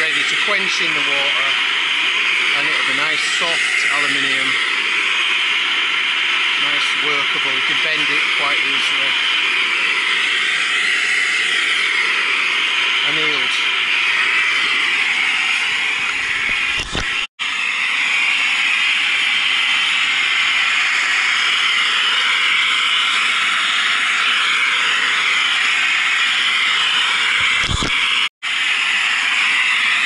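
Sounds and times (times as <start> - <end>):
blowtorch hissing: 0.0 - 30.0.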